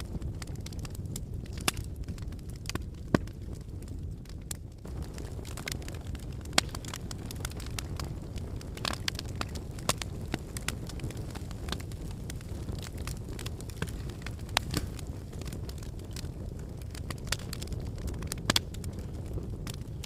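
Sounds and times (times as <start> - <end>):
fire crackles and pops: 0.0 - 20.0
fire rumbling: 0.0 - 20.0.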